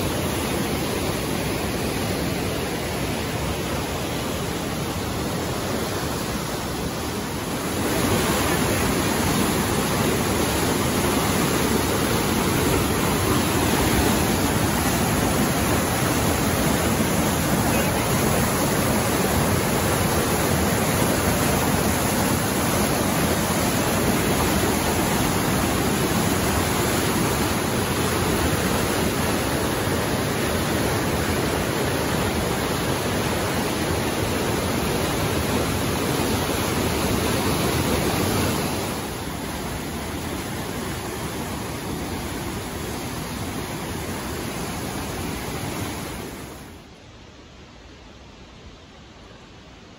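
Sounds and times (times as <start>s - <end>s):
creek rushing over rocks: 0.0s - 49.9s.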